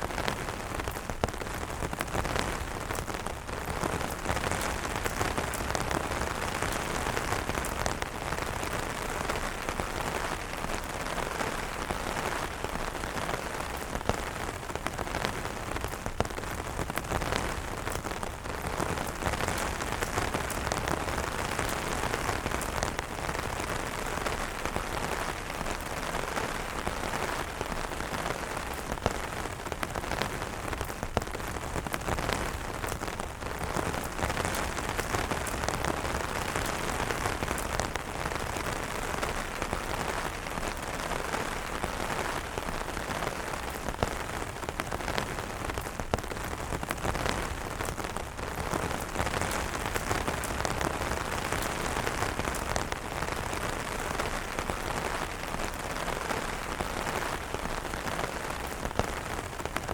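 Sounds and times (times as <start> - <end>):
rain falling on an umbrella: 0.0 - 59.9.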